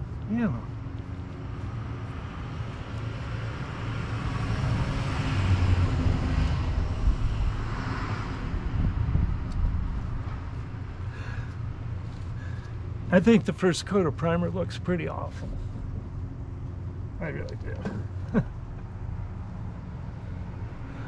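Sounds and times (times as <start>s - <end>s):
vehicle passing: 0.0s - 21.0s.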